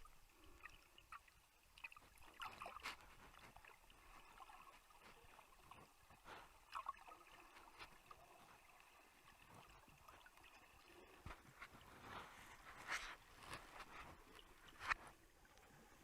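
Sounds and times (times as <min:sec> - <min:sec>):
soft water gurgles: 0:00.0 - 0:16.0.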